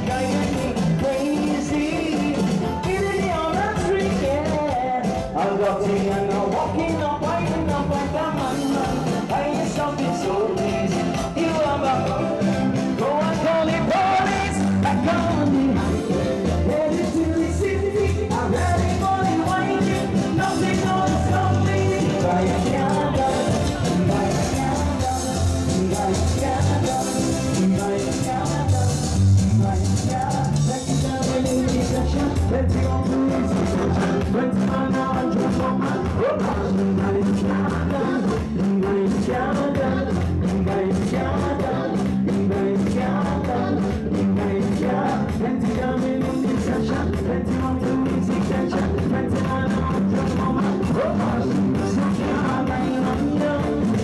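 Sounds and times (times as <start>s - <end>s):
amplified drums: 0.0s - 54.0s
bass guitar: 0.0s - 54.0s
electric guitar: 0.0s - 54.0s
live band playing: 0.0s - 54.0s
man singing: 0.0s - 54.0s.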